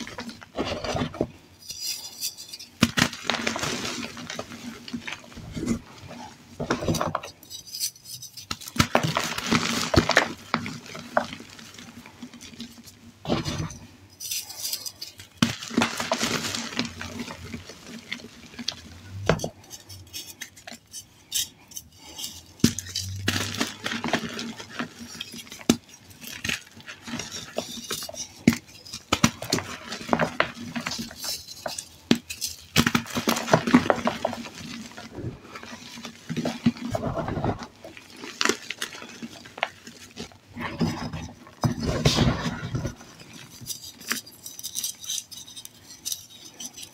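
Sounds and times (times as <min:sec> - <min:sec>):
hands crushing chalk: 0:00.0 - 0:46.9.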